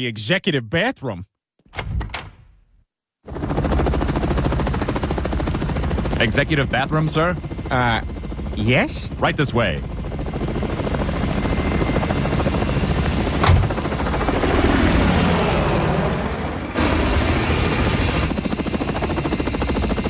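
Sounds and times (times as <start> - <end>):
helicopter rotor chopping: 3.3 - 20.0.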